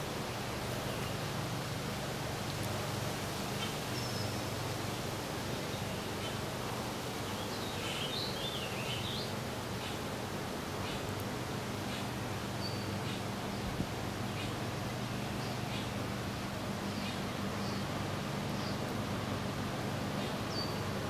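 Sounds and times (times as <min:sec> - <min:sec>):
wind rustling leaves: 0:00.0 - 0:21.0.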